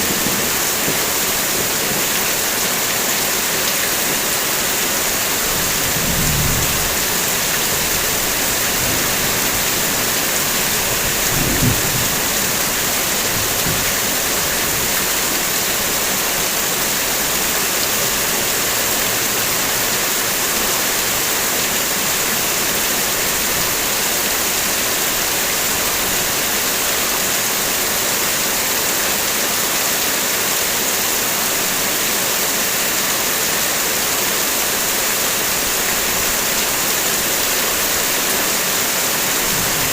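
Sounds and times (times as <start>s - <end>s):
heavy rain on a car: 0.0s - 39.9s.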